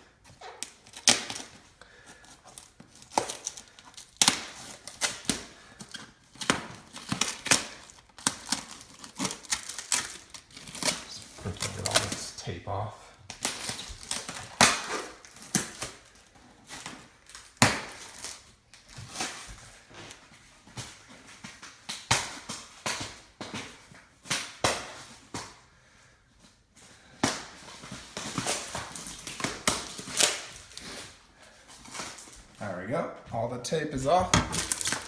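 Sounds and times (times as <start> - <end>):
packing tape ripping off cardboard: 0.2 - 12.6, 13.3 - 25.6, 27.1 - 32.5, 34.3 - 35.0.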